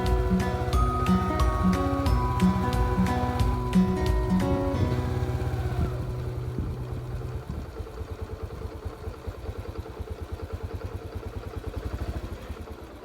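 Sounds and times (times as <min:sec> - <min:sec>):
small motorcycle engine puttering: 0:00.0 - 0:13.0.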